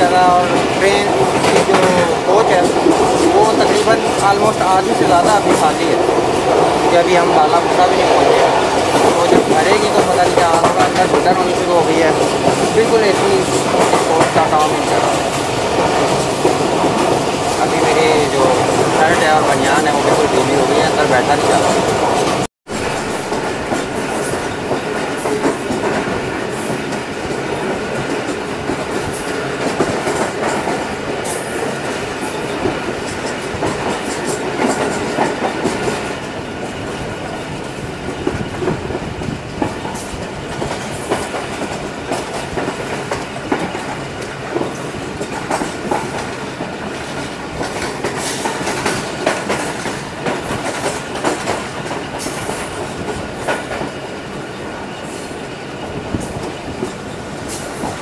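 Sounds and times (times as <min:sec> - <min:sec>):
train running noise: 0:00.0 - 0:58.0
wheels clattering over rail joints: 0:07.6 - 0:58.0.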